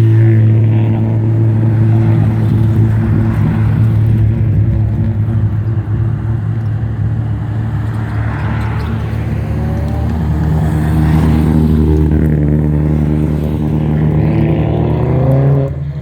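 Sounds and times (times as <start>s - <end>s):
race car engine droning: 0.0s - 16.0s.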